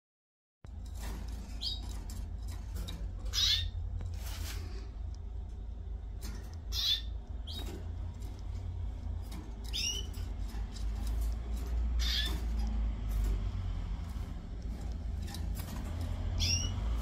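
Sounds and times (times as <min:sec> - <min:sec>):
canaries chirping: 0:00.7 - 0:17.0
low steady hum: 0:00.7 - 0:17.0.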